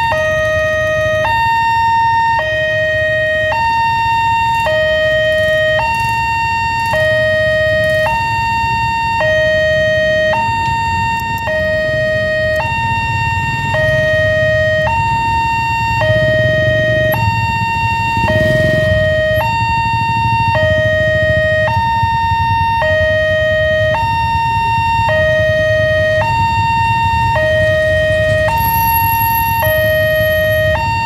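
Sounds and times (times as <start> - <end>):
two-tone level crossing alarm: 0.0 - 31.0
motorcycle engines idling: 0.3 - 31.0.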